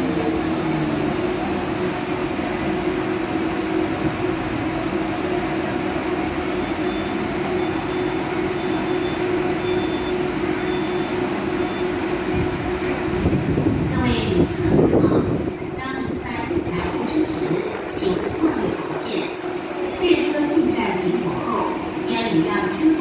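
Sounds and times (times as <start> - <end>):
tram electrical hum: 0.0 - 23.0.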